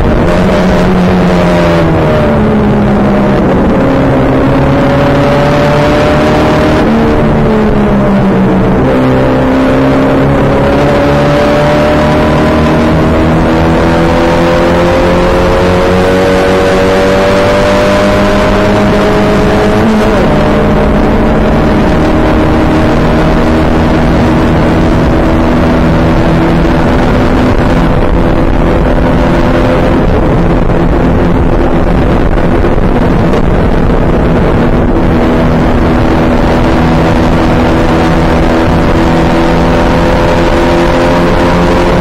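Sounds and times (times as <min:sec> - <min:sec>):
race car engine at high revs: 0:00.0 - 0:42.0
wind rush on microphone: 0:00.0 - 0:42.0.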